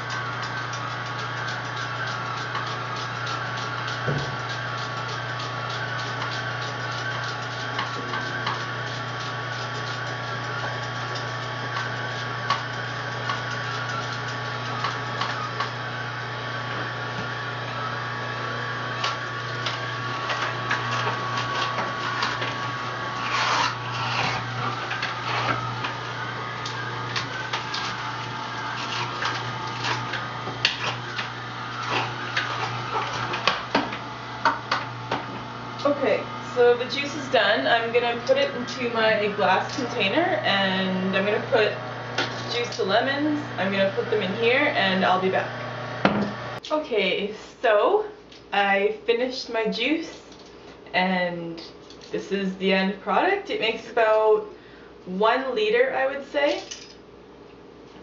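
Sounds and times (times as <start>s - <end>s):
electric juicer motor humming: 0.0s - 46.8s.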